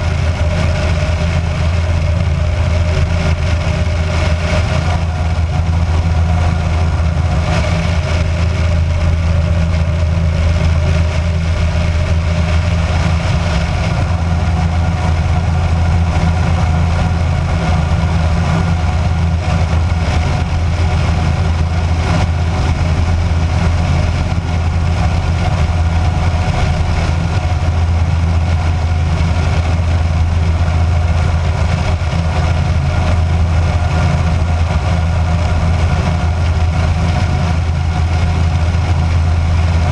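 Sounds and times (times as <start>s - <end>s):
aircraft engine and propeller hum: 0.0s - 39.9s.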